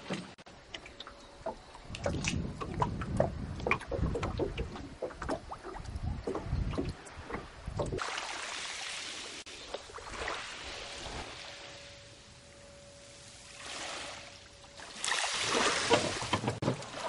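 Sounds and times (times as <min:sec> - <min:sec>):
water splashing against boat hull: 0:00.0 - 0:11.6, 0:14.8 - 0:17.0.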